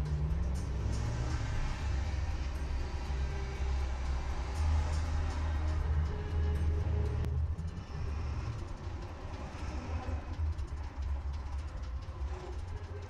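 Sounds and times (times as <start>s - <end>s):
car engine rumble and road noise: 0.0s - 13.0s.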